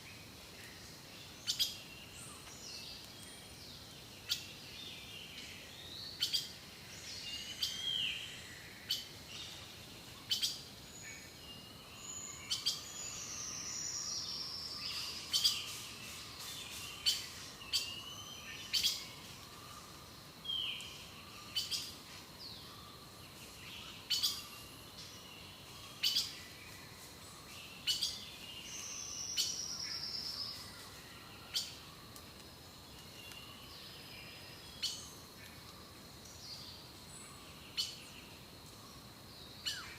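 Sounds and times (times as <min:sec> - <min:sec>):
wild birds singing and calling: 0:00.0 - 0:39.9.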